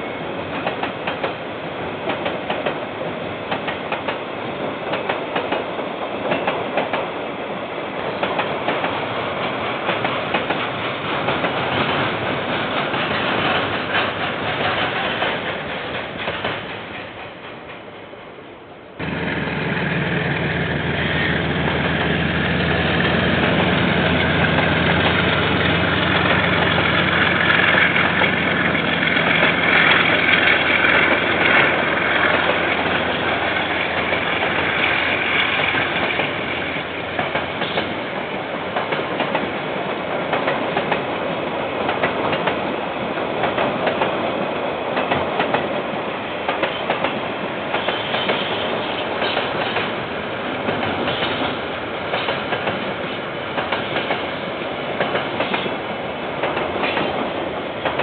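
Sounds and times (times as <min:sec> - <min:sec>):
diesel locomotive engine hum: 0:08.0 - 0:58.0.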